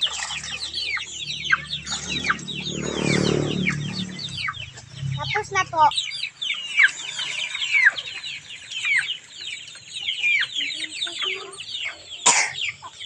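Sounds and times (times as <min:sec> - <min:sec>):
chickens cheeping: 0:00.0 - 0:13.0.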